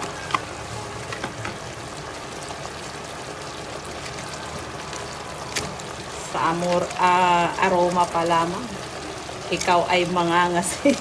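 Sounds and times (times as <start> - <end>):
sauce bubbling and sizzling in pan: 0.0 - 11.0.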